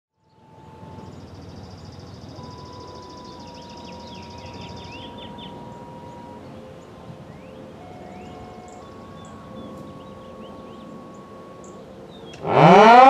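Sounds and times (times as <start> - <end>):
faint steady tone: 0.2 - 12.6
birds chirping: 0.2 - 13.0
fast high bird trill: 0.4 - 13.0.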